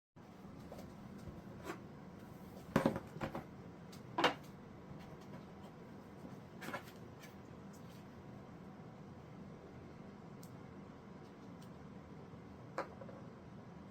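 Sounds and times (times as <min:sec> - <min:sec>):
low steady hum: 0:00.2 - 0:13.9.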